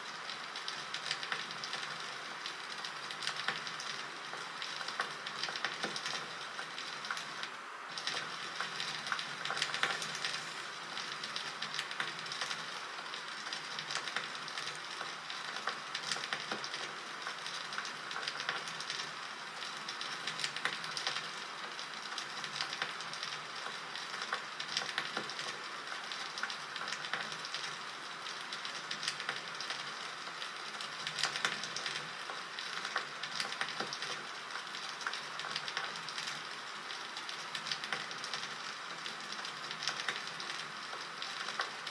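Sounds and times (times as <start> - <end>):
bonfire crackling and popping: 0.1 - 41.9.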